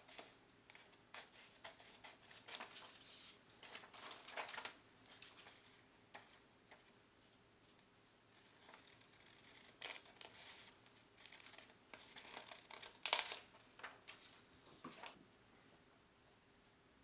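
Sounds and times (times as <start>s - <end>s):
paper rustling: 0.0s - 7.0s, 7.6s - 16.8s.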